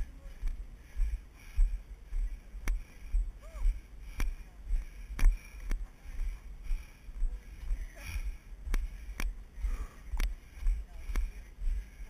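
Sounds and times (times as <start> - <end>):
low rumble of movement: 0.0 - 12.0.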